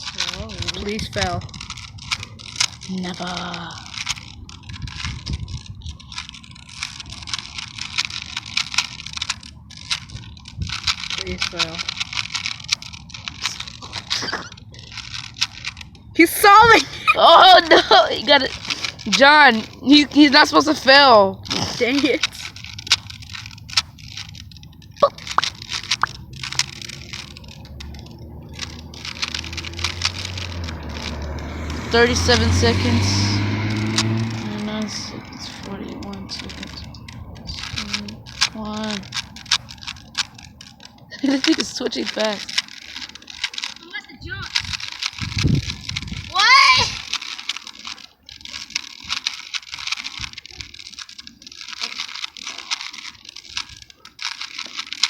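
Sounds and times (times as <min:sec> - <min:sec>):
puzzle cube plastic clicks: 0:00.0 - 0:55.0.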